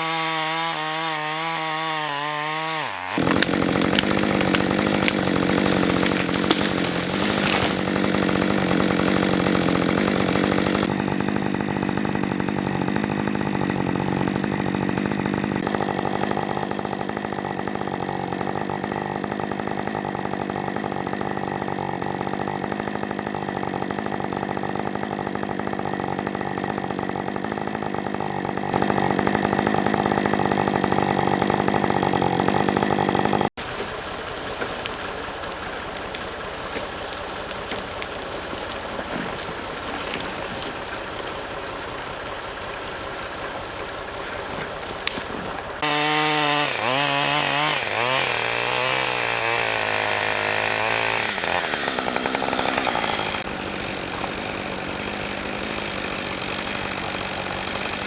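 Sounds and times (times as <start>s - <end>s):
chainsaw cutting timber: 0.0s - 58.0s.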